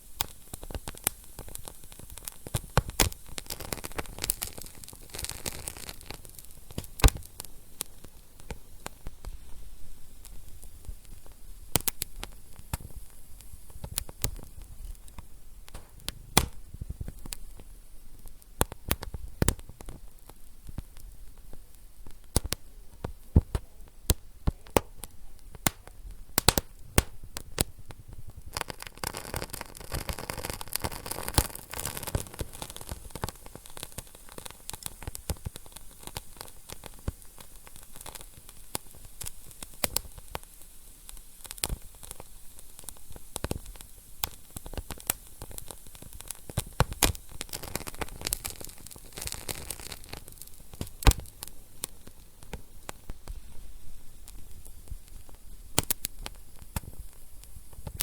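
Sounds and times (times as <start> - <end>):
flames hissing: 0.0 - 58.0
wood fire crackling and popping: 0.0 - 58.0.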